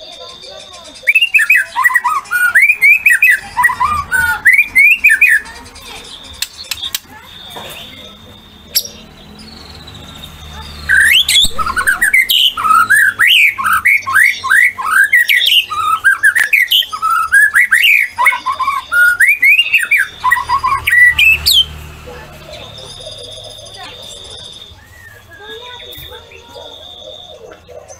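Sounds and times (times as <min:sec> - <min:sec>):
bird song whistled notes: 0:00.0 - 0:27.9.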